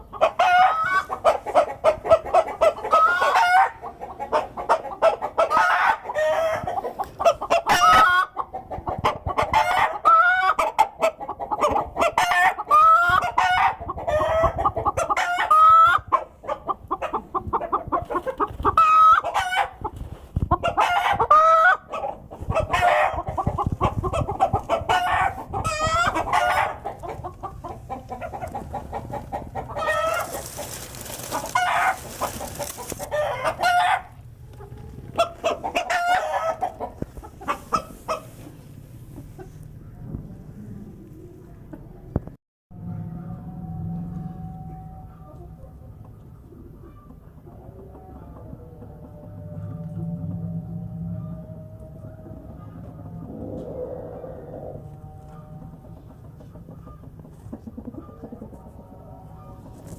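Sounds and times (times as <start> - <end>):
hens cackling: 0.0 - 39.7, 45.1 - 59.9.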